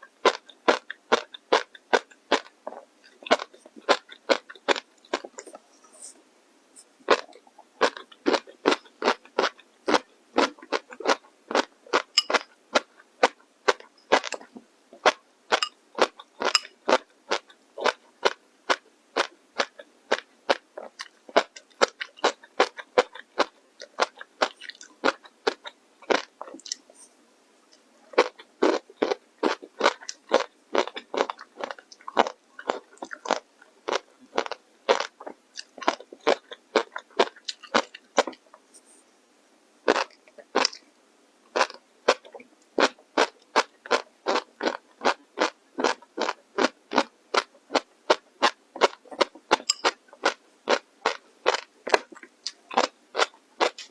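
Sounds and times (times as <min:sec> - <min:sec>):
chewing crunchy food: 0:00.0 - 0:06.2, 0:06.8 - 0:27.1, 0:27.7 - 0:39.0, 0:39.9 - 0:40.9, 0:41.5 - 0:53.9.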